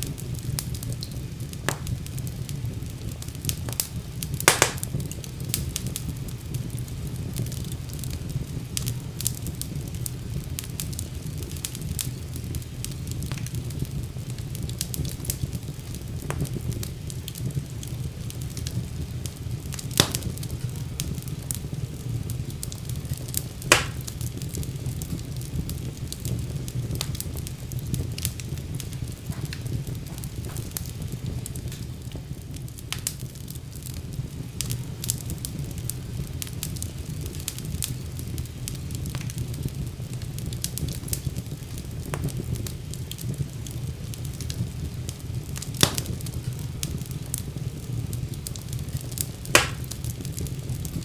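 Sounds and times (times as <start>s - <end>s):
fire crackling: 0.0s - 51.0s
fire rumbling in fireplace: 0.0s - 51.0s
loud fire pops: 0.0s - 51.0s.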